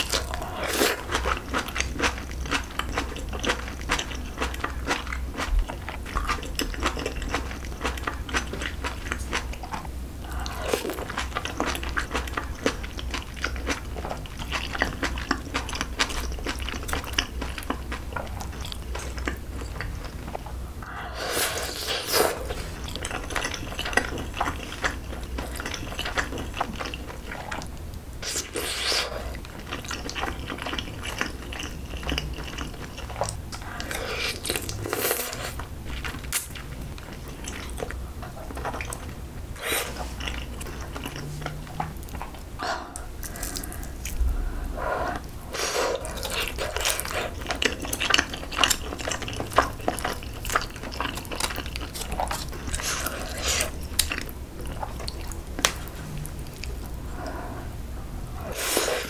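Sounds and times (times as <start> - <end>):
person chewing food: 0.0 - 57.8.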